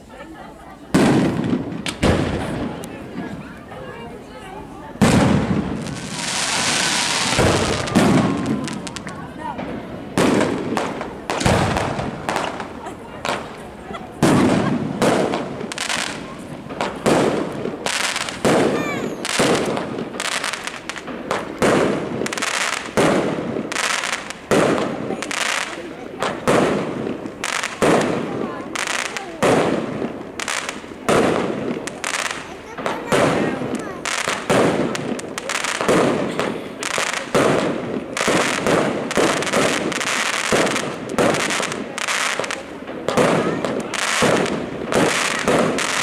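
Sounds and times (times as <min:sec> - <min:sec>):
fireworks crackling: 0:00.0 - 0:46.0
fireworks bangs: 0:00.5 - 0:46.0.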